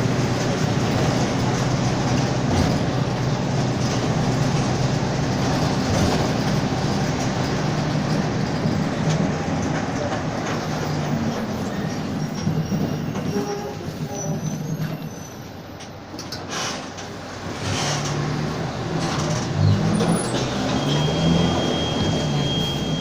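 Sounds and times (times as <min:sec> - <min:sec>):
bus diesel engine drone: 0:00.0 - 0:23.0.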